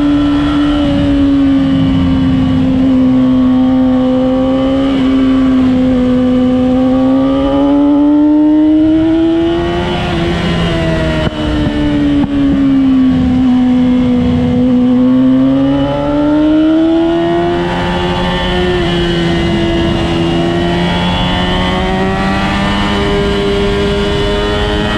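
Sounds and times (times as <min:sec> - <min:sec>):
race car engine: 0:00.0 - 0:24.9.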